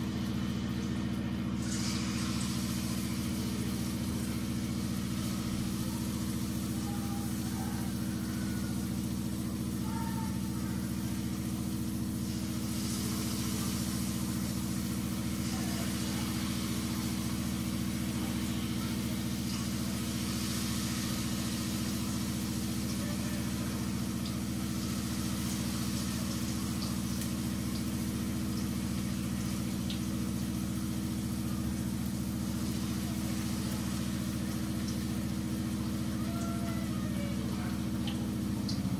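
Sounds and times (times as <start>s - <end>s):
low mechanical hum: 0.0s - 38.9s
oil sizzling: 0.0s - 38.9s.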